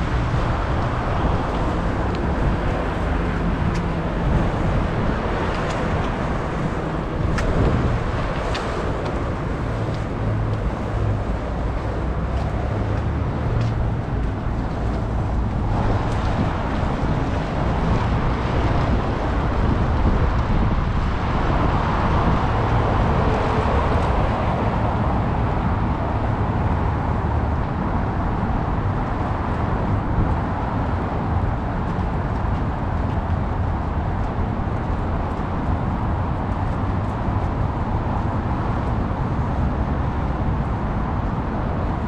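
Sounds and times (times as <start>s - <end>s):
city road traffic rumble: 0.0s - 42.0s.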